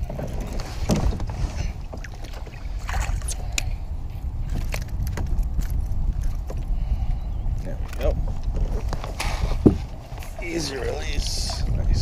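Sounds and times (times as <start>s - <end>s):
water against kayak hull: 0.0s - 12.0s
wind on microphone: 0.0s - 12.0s.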